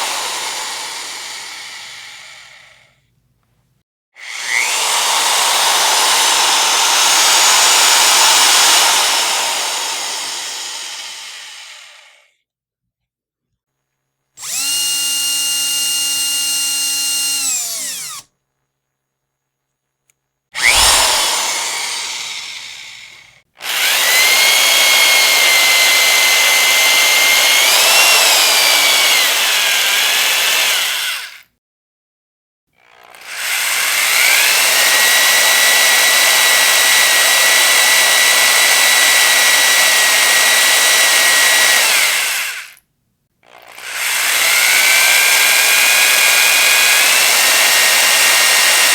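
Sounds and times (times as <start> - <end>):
electric power drill whining: 0.0 - 2.9, 4.2 - 12.3, 14.4 - 18.3, 20.6 - 31.4, 32.9 - 42.8, 43.5 - 48.9.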